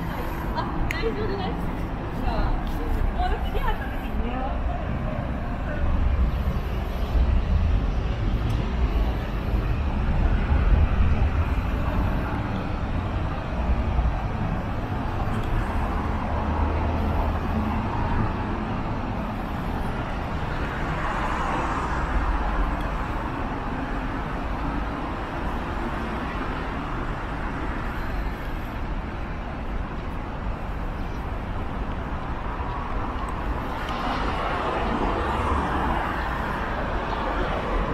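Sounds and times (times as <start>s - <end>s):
rumble of cars driving past: 0.0s - 37.9s.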